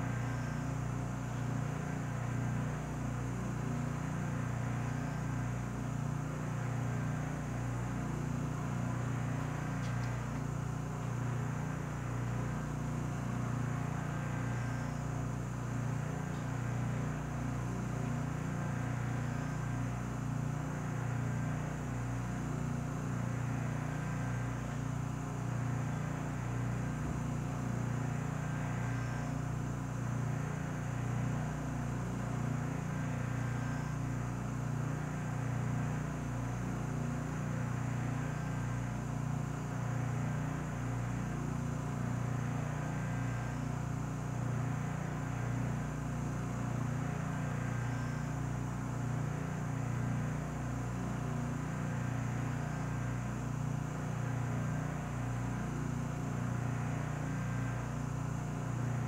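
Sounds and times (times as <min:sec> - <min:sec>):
vacuum furnace humming: 0:00.0 - 0:59.0.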